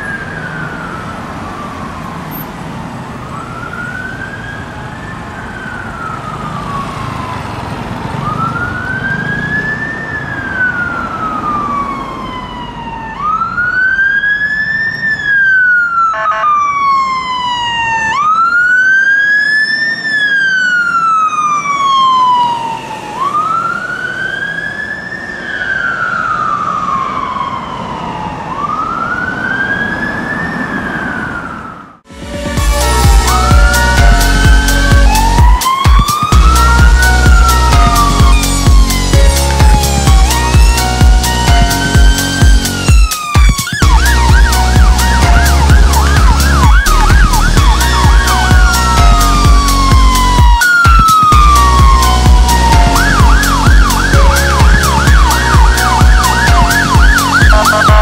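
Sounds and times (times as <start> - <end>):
fire engine siren wailing: 0.0 - 58.0.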